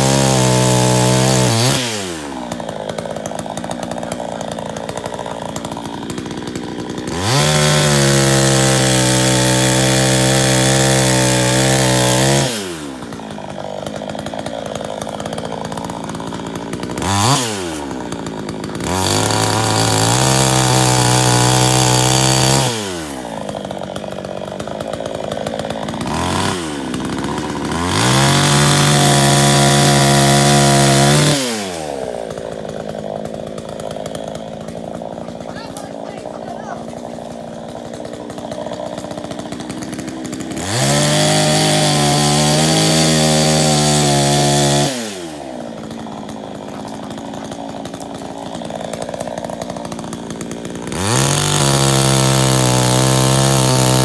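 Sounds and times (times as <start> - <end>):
chainsaw running at high revs: 0.0 - 54.0.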